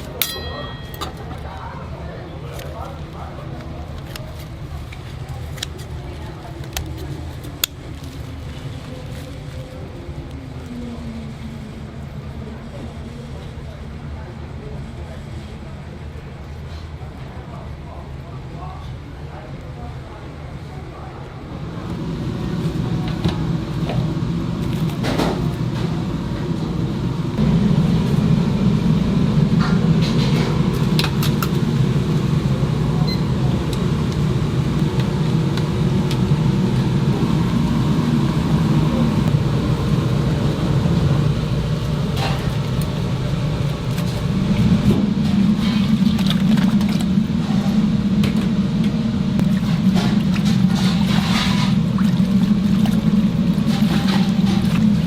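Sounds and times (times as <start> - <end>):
low mechanical rumble: 0.0 - 55.0.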